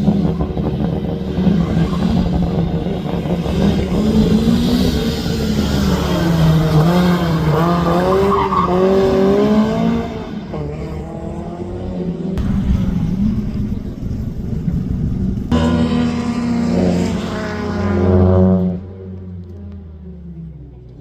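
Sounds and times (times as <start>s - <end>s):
rally car engine running hard: 0.0s - 21.0s.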